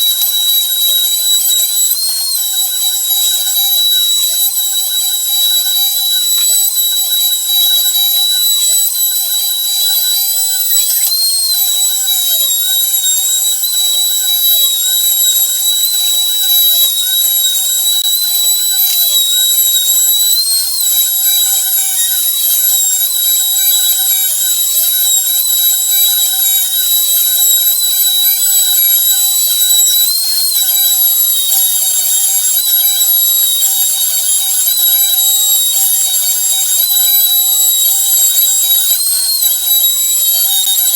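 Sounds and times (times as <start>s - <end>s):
spindle motor whine: 0.0s - 40.9s
stepper motors changing pitch: 6.0s - 40.9s.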